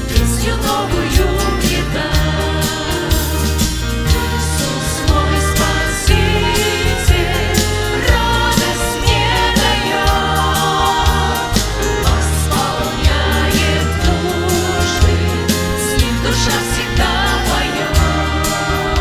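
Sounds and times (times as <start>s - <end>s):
band playing: 0.0s - 19.0s
group singing worship song: 0.0s - 19.0s.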